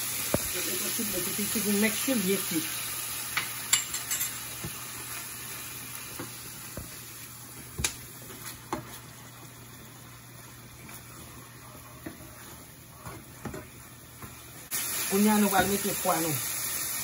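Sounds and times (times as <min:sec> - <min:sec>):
sauce sizzling in hot oil: 0:00.0 - 0:17.0.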